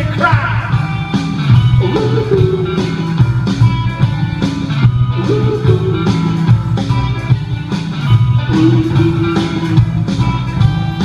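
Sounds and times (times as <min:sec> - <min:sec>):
electric guitar riff: 0:00.0 - 0:11.0
steady drum beat: 0:00.0 - 0:11.0.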